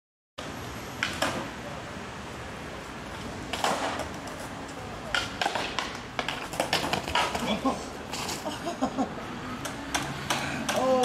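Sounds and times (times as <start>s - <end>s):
skateboard wheels rolling on concrete: 0.4s - 11.0s.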